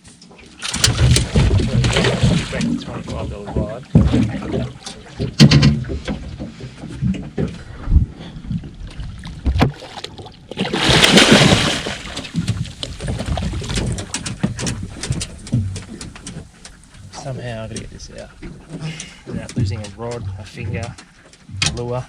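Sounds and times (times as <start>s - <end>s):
knocks and rattles in boat: 0.0s - 22.0s
water splashing: 0.3s - 22.0s.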